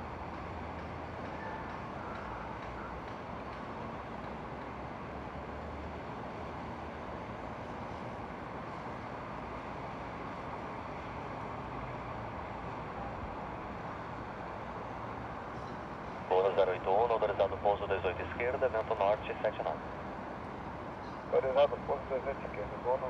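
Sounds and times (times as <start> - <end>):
outdoor background hiss and rumble: 0.0 - 23.0.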